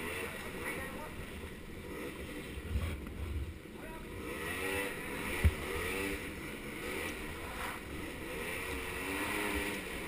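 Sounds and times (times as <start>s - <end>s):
small engine revving: 0.0s - 10.0s.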